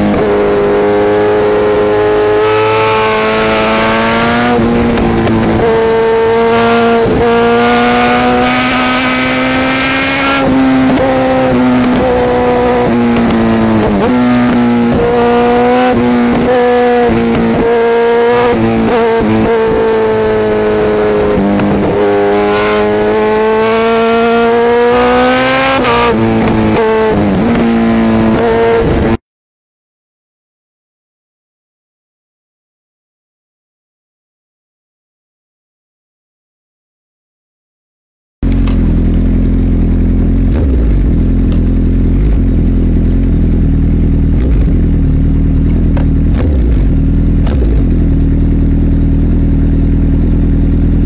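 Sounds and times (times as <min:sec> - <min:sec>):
motorcycle engine revving: 0:00.0 - 0:29.2, 0:38.4 - 0:51.0.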